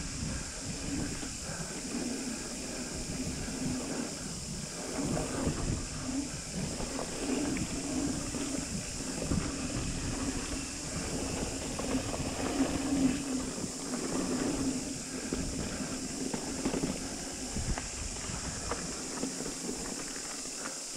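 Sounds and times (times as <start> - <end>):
bike rattling over bumps: 0.0 - 20.9
bike tyres on dirt: 0.0 - 20.9
wind hiss on microphone: 0.0 - 20.9.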